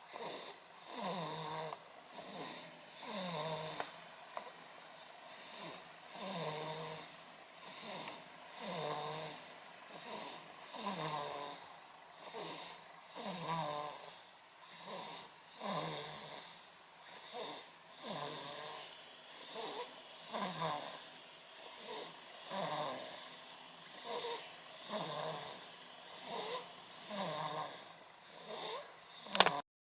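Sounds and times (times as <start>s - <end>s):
baby snoring: 0.0s - 29.6s.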